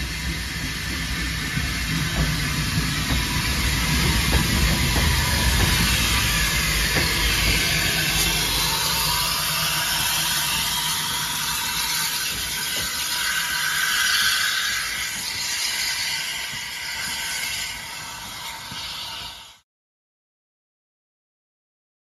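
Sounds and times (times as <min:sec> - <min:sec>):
steam hissing from locomotive: 0:00.0 - 0:19.6.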